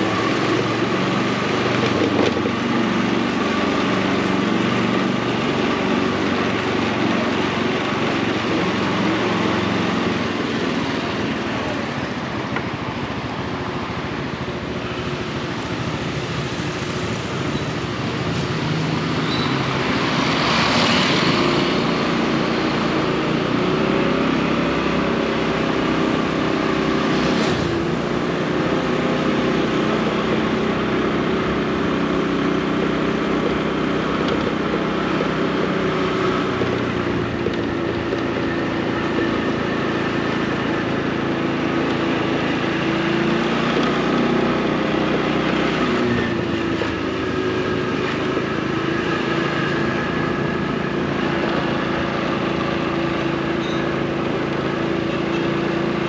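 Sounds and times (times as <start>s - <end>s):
motorcycle engine running: 0.0s - 56.0s
street traffic noise: 0.0s - 56.0s.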